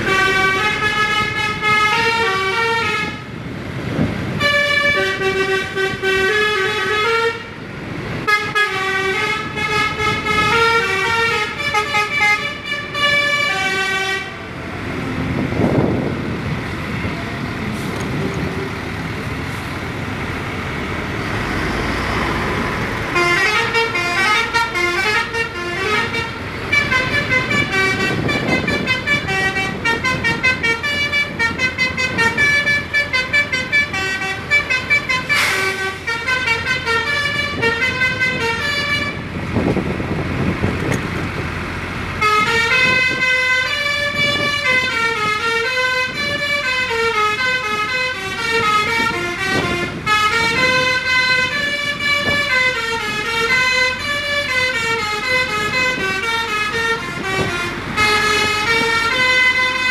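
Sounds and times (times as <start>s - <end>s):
multi-tone bus horn melodies: 0.0s - 16.1s, 23.0s - 40.5s, 42.2s - 59.9s
bus road noise: 0.0s - 59.9s.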